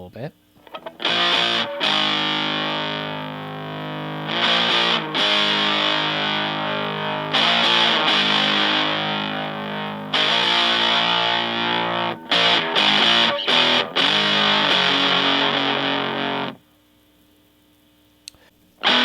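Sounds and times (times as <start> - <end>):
fuzzed electric guitar chords: 0.6 - 16.7, 18.8 - 19.0.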